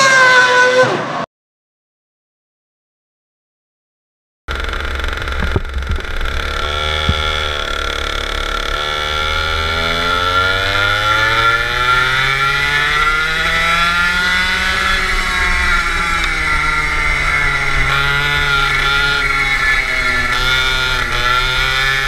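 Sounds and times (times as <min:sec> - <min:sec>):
go-kart engine accelerating: 0:00.0 - 0:01.2, 0:04.5 - 0:22.0.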